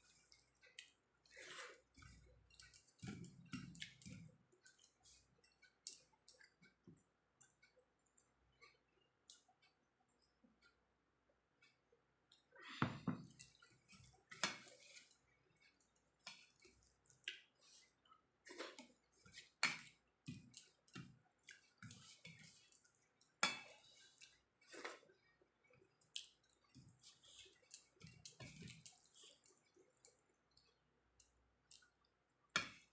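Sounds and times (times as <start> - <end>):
person chewing food: 0.0 - 10.7, 13.3 - 32.9.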